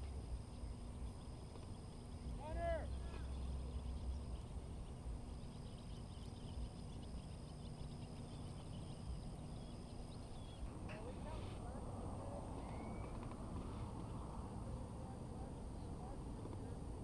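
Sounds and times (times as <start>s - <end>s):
faint bird chirps: 0.0s - 14.0s
high-pitched whine: 0.0s - 16.4s.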